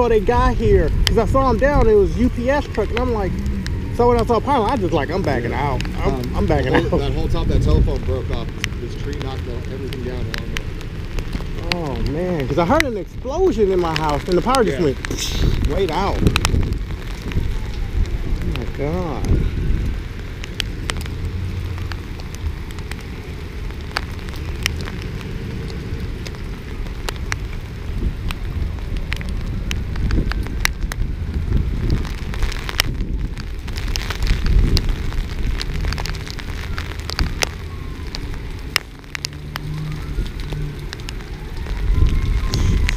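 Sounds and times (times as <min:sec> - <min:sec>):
heavy rain falling: 0:00.0 - 0:42.9
raindrops clicking on camera: 0:00.0 - 0:42.9
steady low rumble: 0:00.0 - 0:42.9.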